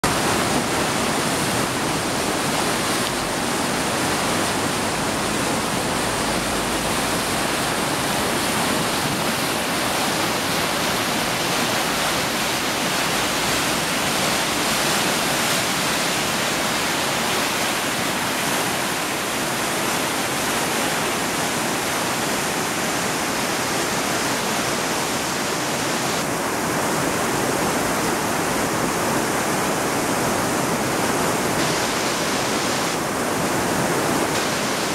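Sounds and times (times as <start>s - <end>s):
river rushing over weir: 0.0s - 34.9s.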